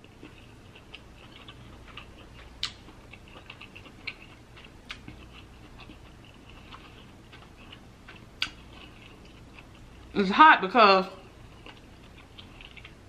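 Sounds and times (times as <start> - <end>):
wet mouth clicks chewing: 0.2 - 9.9, 11.6 - 13.0.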